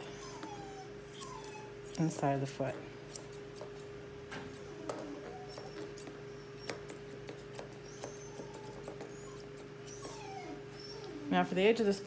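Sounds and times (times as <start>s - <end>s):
puppy whimpering: 0.0s - 2.4s, 4.5s - 12.0s
scissors snipping fur: 0.0s - 10.2s.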